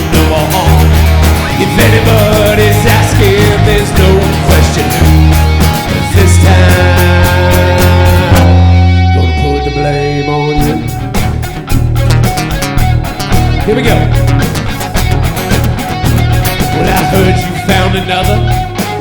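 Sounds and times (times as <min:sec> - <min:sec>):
drum machine beat: 0:00.0 - 0:09.0, 0:10.6 - 0:19.0
bass line: 0:00.0 - 0:19.0
electric guitars: 0:00.0 - 0:19.0.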